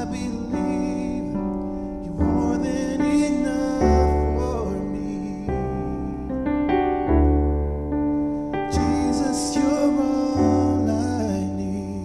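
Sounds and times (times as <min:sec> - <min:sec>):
person singing: 0:00.0 - 0:07.4, 0:08.4 - 0:12.0
held piano-like keyboard chords: 0:00.0 - 0:12.0.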